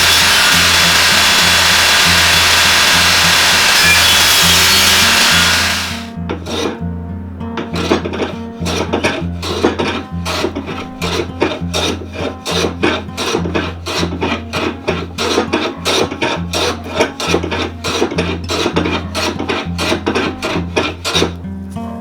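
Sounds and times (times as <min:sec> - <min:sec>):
wood being rasped by hand: 0:00.0 - 0:06.9, 0:07.5 - 0:21.5
acoustic guitar music: 0:02.9 - 0:22.0.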